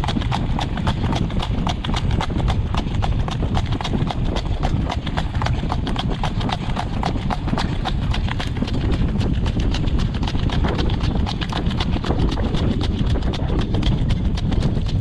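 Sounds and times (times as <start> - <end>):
horse hooves trotting on gravel: 0.0 - 15.0
low rumble: 0.0 - 15.0.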